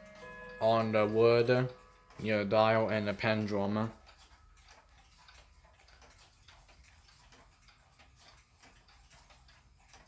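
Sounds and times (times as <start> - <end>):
clock ticking: 0.0 - 10.0.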